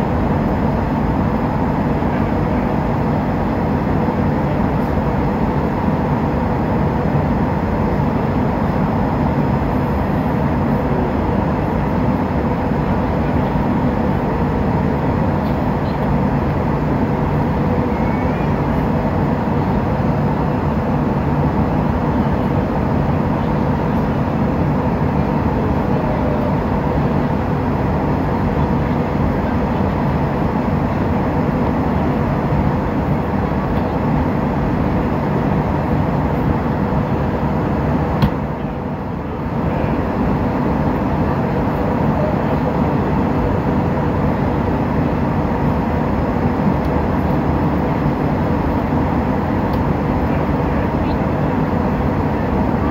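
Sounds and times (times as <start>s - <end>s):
airliner cabin engine hum: 0.0s - 52.9s.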